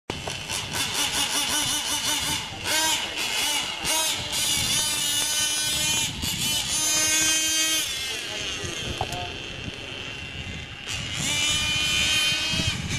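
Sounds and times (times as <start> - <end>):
model motorcycle motor revving: 0.1 - 12.9.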